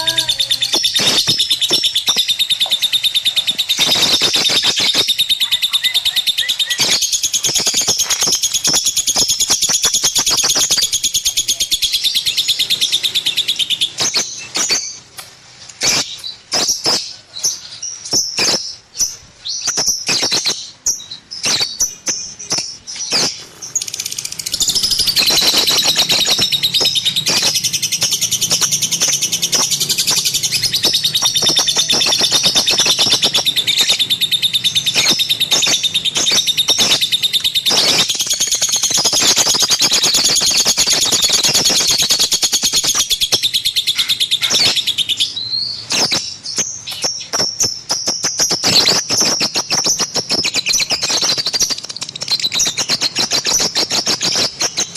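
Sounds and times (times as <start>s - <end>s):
bird chirping chatter: 0.0s - 54.9s.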